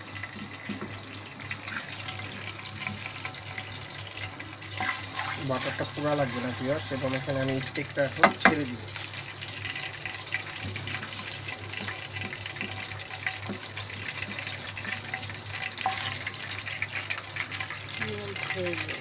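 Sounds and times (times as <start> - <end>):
butter sizzling in frying pan: 0.0 - 19.0.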